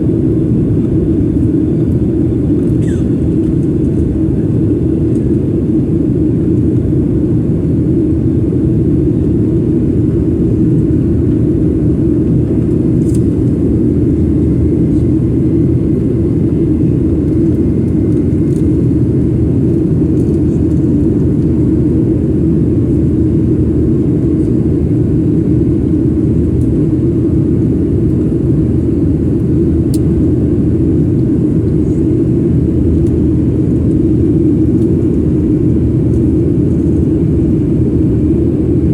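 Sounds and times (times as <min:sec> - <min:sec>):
jet airliner cabin roar: 0:00.0 - 0:38.9.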